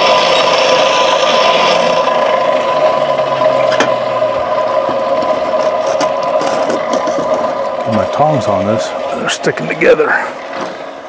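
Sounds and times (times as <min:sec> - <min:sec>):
forge blower whirring: 0:00.0 - 0:11.0.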